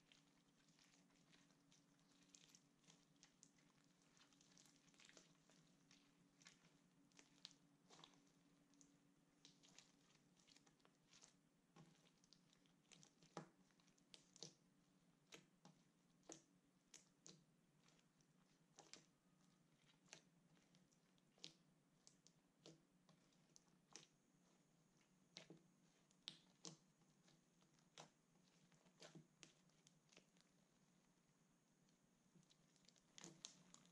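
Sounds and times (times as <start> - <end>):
slime squelching: 0.0 - 33.9.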